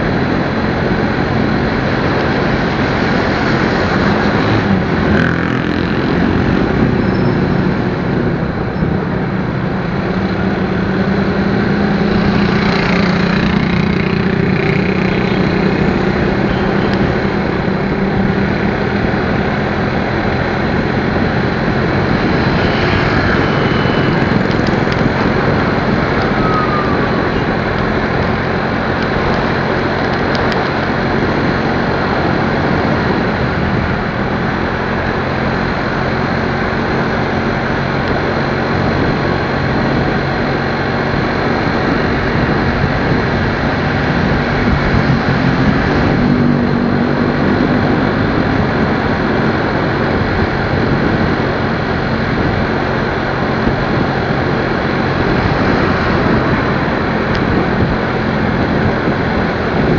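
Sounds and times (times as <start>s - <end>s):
motorcycle engine hum: 0.0s - 59.9s
wind and road noise: 0.0s - 59.9s.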